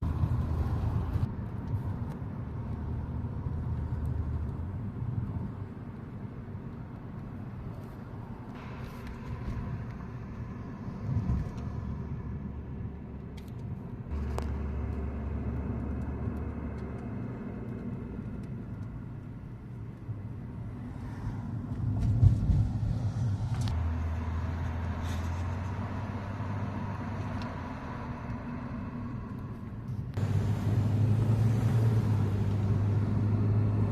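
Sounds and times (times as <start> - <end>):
car engines running: 0.0 - 33.9
vehicles passing: 0.0 - 33.9.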